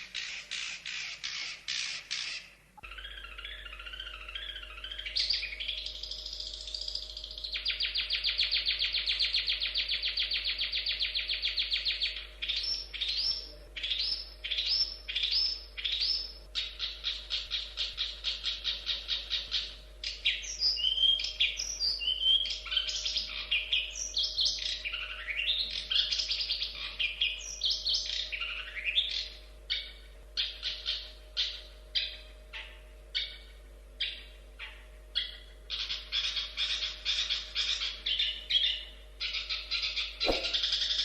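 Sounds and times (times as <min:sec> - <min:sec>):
bird singing chattering notes: 0:00.0 - 0:34.3, 0:35.2 - 0:41.0
faint steady hum: 0:00.0 - 0:41.0.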